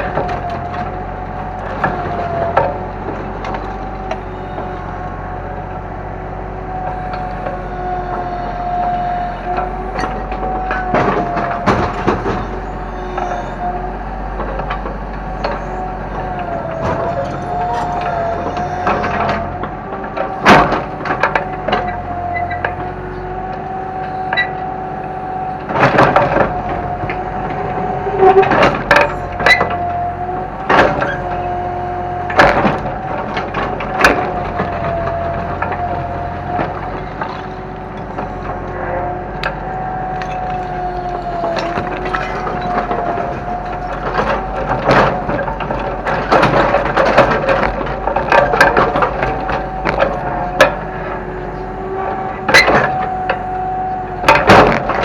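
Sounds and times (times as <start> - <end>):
excavator engine and hydraulics whine: 0.0 - 55.0.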